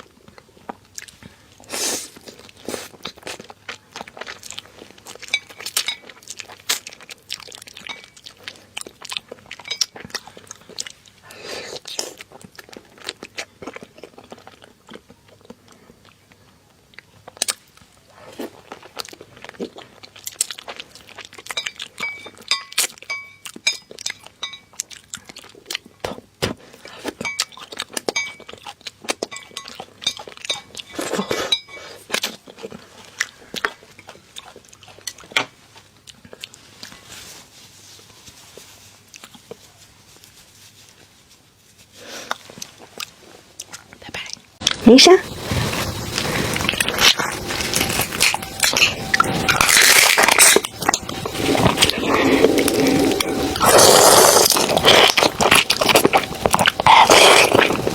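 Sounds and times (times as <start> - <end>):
chewing and crunching: 0.0 - 57.9.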